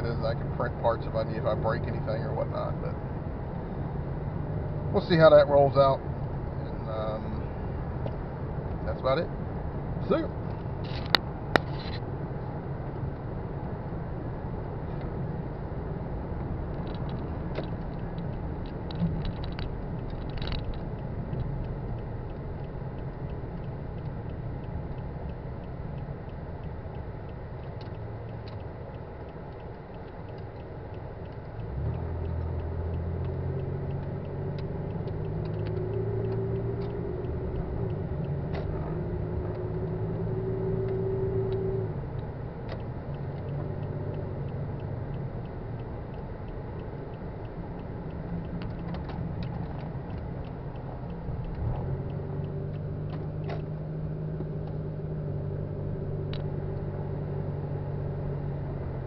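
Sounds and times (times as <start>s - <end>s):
car engine and road rumble: 0.0s - 59.0s
faint regular ticking: 0.1s - 11.6s, 15.0s - 59.0s.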